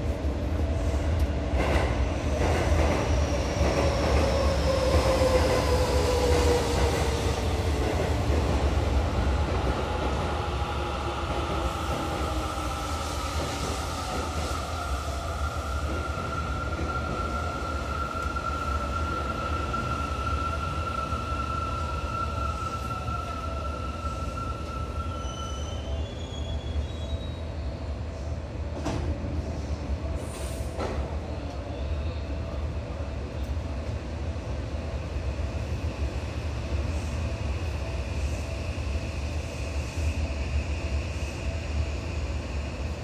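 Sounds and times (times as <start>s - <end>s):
electric train rumbling: 0.0s - 43.0s.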